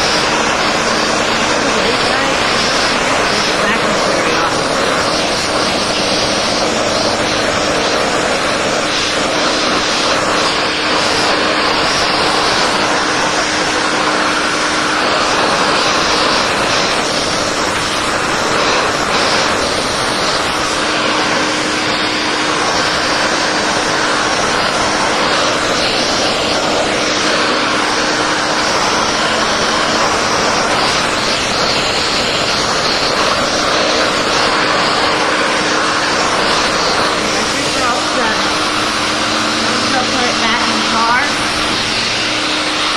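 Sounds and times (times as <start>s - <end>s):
vacuum air rushing through hose: 0.0s - 42.9s.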